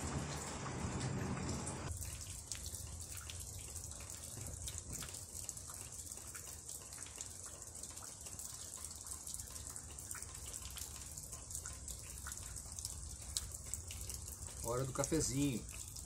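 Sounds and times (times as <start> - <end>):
close water drips: 0.0 - 16.0
steady rain falling: 0.0 - 16.0
trickle of running water: 0.0 - 16.0.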